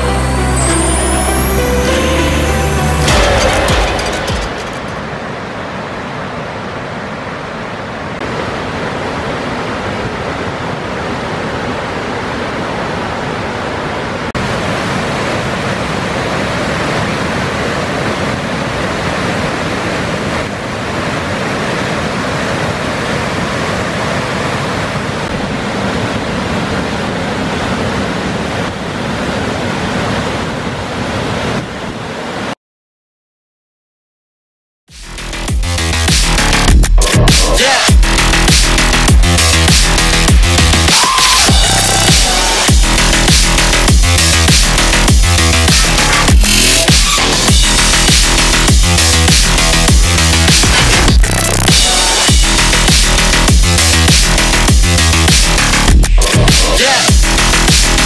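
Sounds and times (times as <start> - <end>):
rushing river water: 0.0 - 32.6, 35.8 - 58.0.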